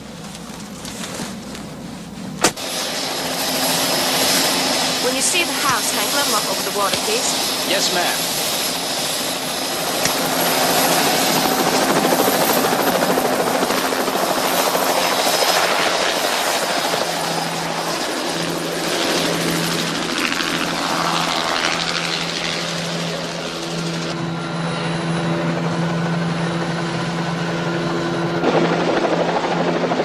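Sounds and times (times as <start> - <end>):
helicopter engine noise: 0.0 - 30.0
helicopter rotor blades beating: 0.0 - 30.0.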